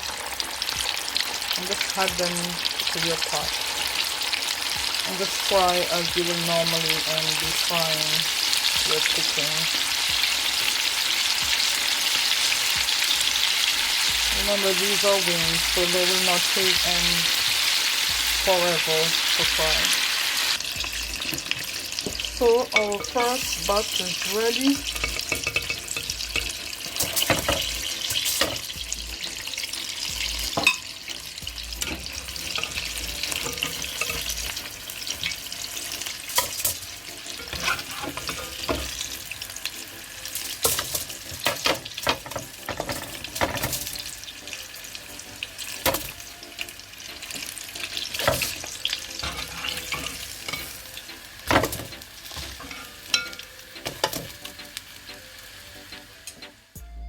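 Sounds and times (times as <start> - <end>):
chicken deep-frying in oil: 0.0 - 56.2.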